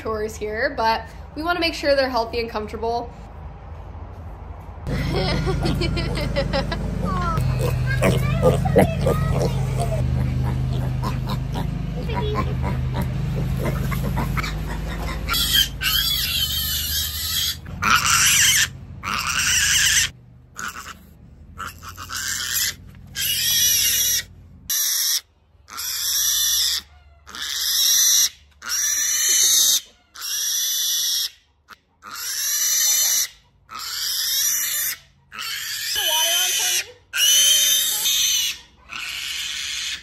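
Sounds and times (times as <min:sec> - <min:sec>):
piglet squealing: 0:07.1 - 0:40.0.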